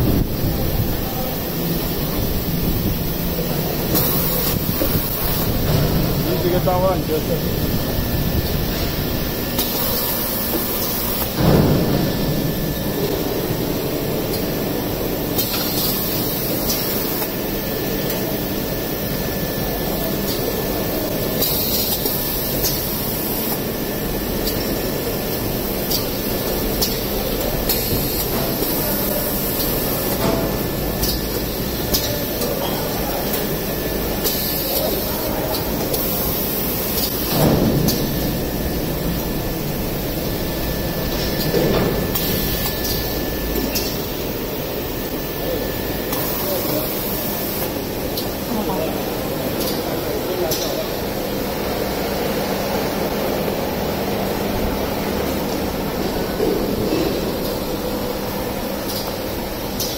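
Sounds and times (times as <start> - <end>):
packing machinery running: 0.0 - 59.9.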